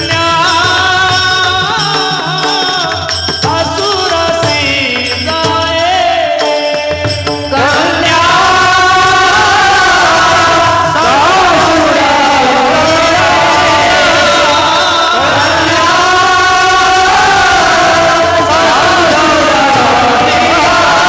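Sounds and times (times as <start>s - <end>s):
devotional singing with accompaniment: 0.0s - 21.0s
quick percussion strokes: 0.0s - 21.0s.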